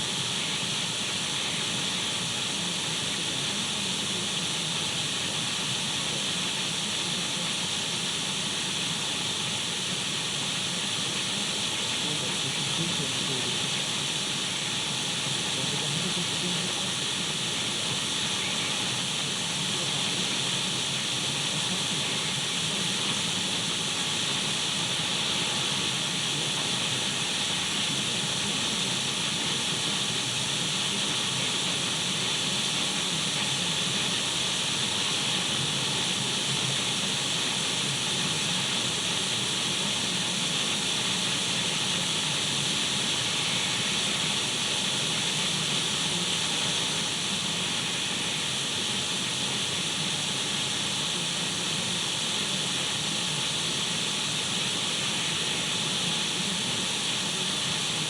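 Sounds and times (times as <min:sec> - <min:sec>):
radio static hiss: 0:00.0 - 0:58.0.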